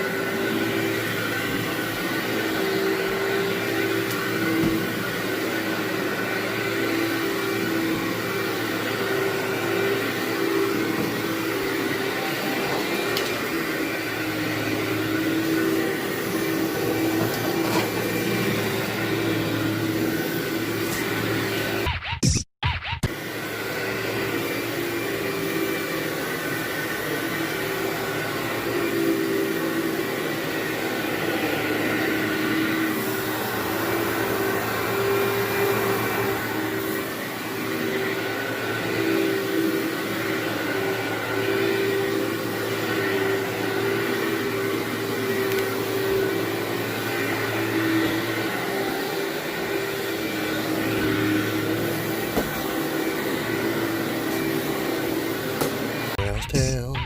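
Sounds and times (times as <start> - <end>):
vacuum cleaner running: 0.0 - 22.0, 23.0 - 56.2.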